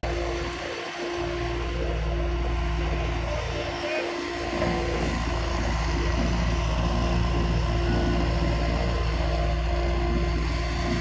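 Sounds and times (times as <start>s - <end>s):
deep engine rumble: 0.0s - 11.0s.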